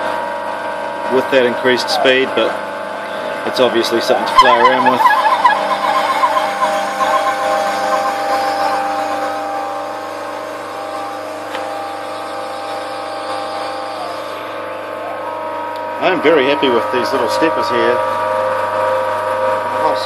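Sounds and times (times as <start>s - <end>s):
lathe motors whining: 0.0s - 20.0s.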